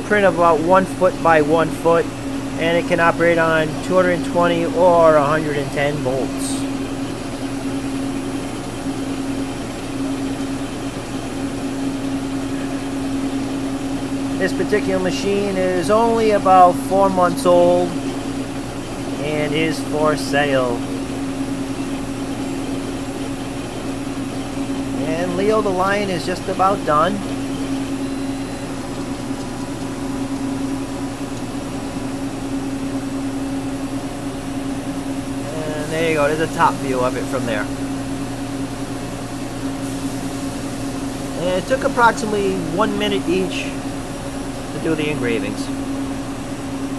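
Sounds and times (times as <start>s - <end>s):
engraving machine humming: 0.0s - 46.9s.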